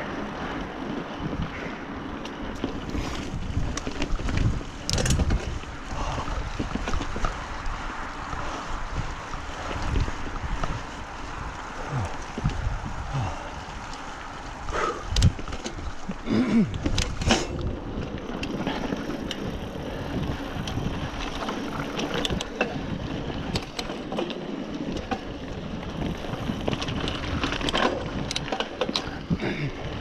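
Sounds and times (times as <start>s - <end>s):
bike clicks and rattles: 0.0s - 30.0s
tyre and wind rush: 0.0s - 30.0s.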